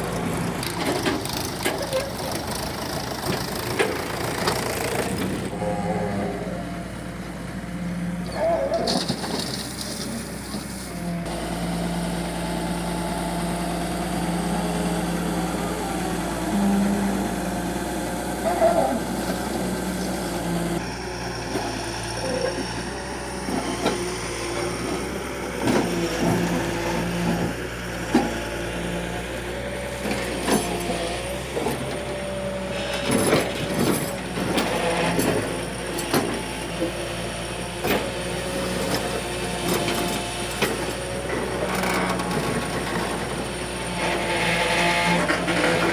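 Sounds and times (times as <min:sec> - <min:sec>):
diesel engine running: 0:00.0 - 0:45.9
hydraulics whining: 0:00.0 - 0:45.9.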